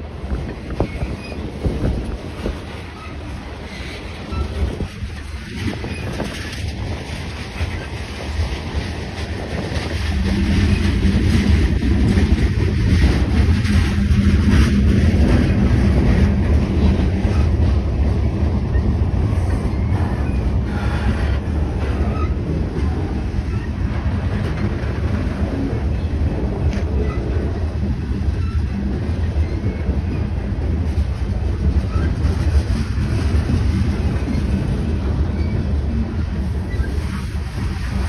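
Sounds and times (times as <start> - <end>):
train wheels rumbling and clicking: 0.0 - 38.0.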